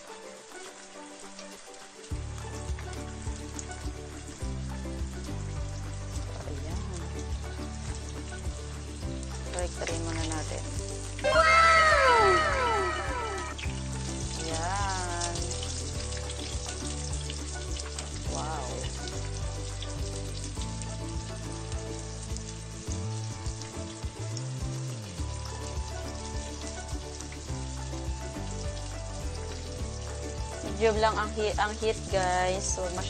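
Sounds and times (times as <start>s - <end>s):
cutlet frying in hot oil: 0.0s - 33.0s.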